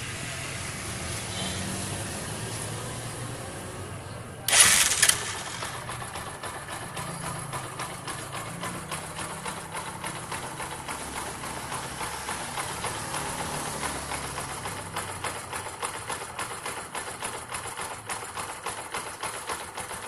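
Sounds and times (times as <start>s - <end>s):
motorcycle engine idling: 0.6s - 20.0s.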